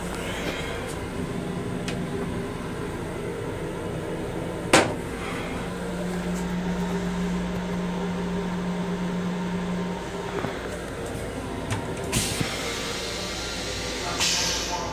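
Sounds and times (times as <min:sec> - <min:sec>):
low electric hum: 0:00.0 - 0:12.2.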